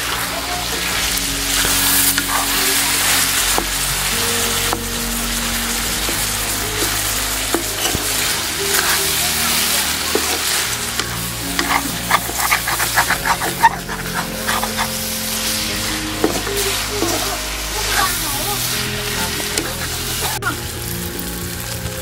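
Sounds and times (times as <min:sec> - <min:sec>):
meat sizzling in a wok: 0:00.0 - 0:22.0
metal ladle scraping pan: 0:00.8 - 0:20.4.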